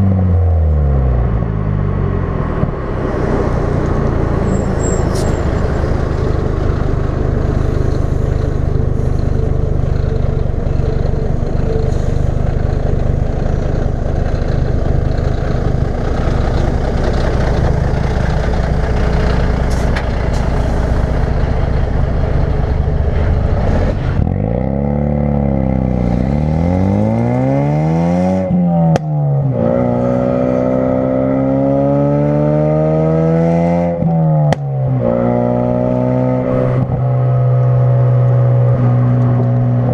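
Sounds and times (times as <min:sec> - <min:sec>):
car engine droning: 0:00.0 - 0:39.9
engine accelerating through gear shifts: 0:00.0 - 0:39.9
road noise: 0:00.0 - 0:39.9.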